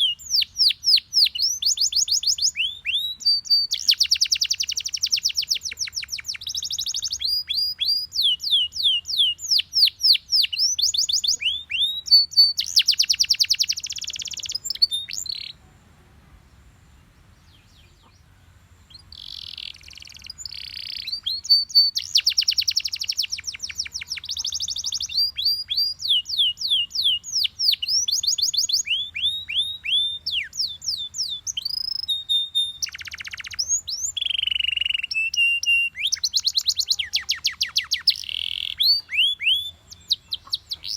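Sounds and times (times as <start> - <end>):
canary singing: 0.0 - 15.6, 17.2 - 40.9.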